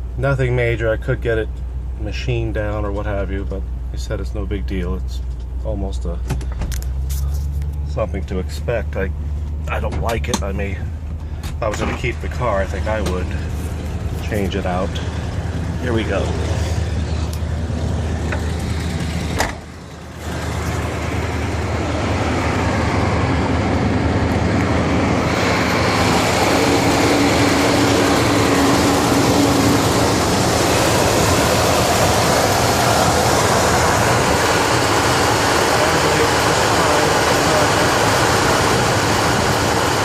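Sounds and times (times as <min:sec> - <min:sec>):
car engine running: 0:00.0 - 0:40.0
road noise: 0:00.0 - 0:40.0.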